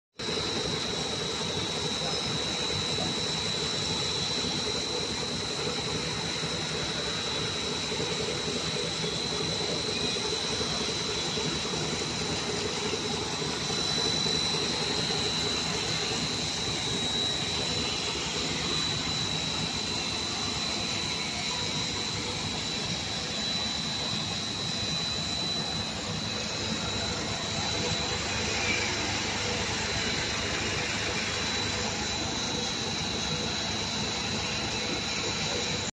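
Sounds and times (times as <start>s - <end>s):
factory machinery running: 0.2s - 35.9s
high machine whine: 0.2s - 35.9s.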